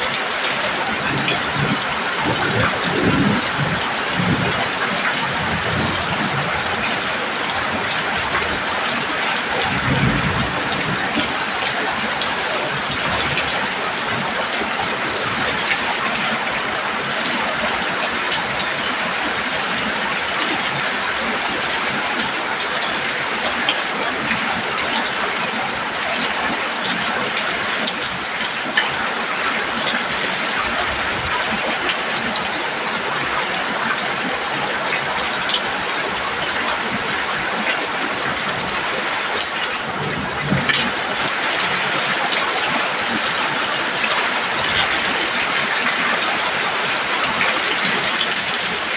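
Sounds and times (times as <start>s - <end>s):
heavy rain on a roof: 0.0s - 48.9s.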